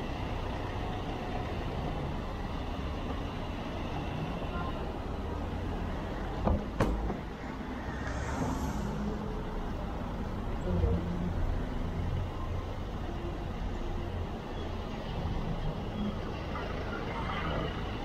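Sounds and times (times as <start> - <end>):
road and wind rumble: 0.0 - 18.0.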